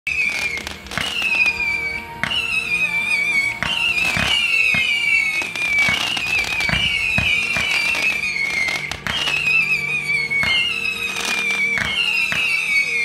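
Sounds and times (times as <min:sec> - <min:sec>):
whistling fireworks: 0:00.1 - 0:13.0.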